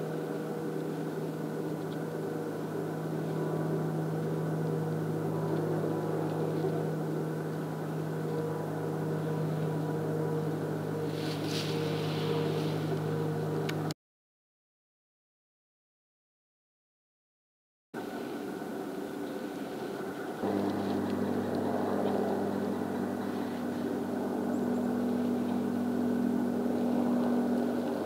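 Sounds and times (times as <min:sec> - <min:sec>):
low motor drone: 0:00.0 - 0:14.0, 0:18.0 - 0:28.0.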